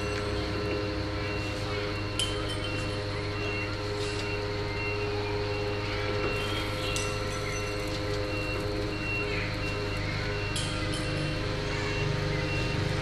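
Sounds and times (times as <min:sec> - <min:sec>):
rotisserie motor hum: 0:00.0 - 0:13.0.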